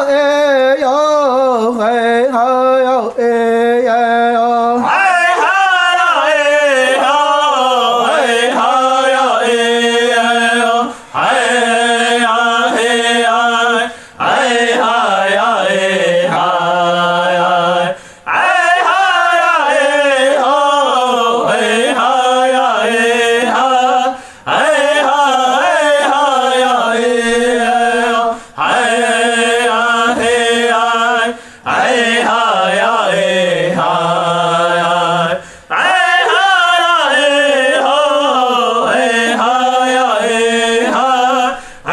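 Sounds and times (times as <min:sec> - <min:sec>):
person chanting a prayer song: 0:00.0 - 0:41.9.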